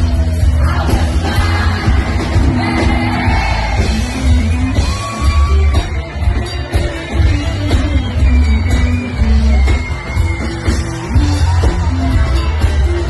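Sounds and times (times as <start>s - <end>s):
live band with heavy bass: 0.0s - 13.0s.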